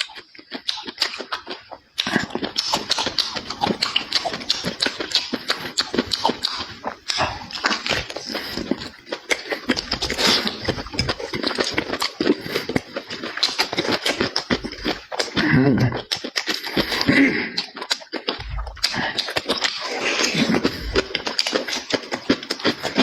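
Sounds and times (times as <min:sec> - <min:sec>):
chewing and lip-smacking: 0:00.0 - 0:23.0
voiced mouth sounds: 0:00.0 - 0:23.0.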